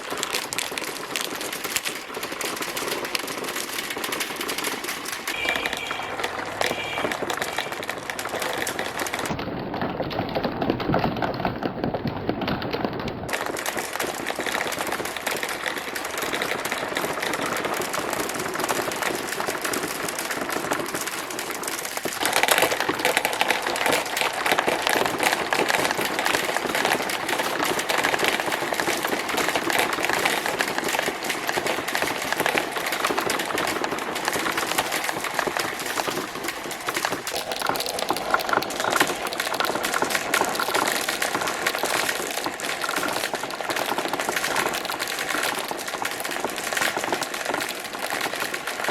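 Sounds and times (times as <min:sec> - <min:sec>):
marbles rolling and clattering: 0:00.0 - 0:48.9.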